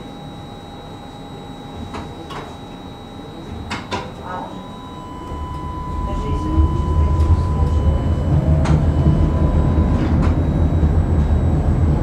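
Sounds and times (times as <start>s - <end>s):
tram electrical hum and whine: 0.0s - 12.0s.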